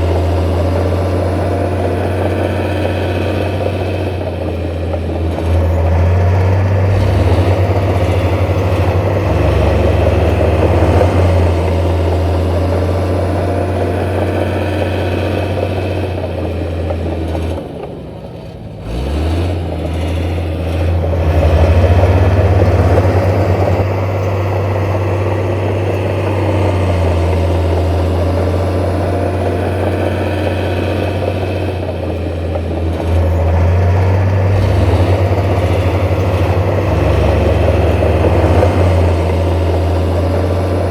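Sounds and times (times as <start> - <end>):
heavy diesel engine droning: 0.0 - 40.9.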